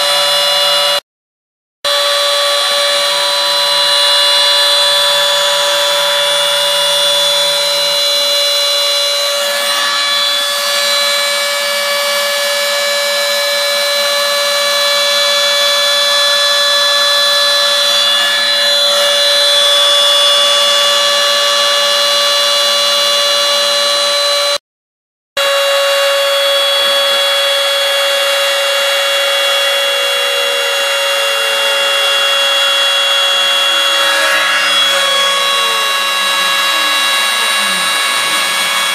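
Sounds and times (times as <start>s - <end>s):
mill spindle high whine: 0.0s - 1.0s, 1.9s - 24.6s, 25.4s - 38.9s.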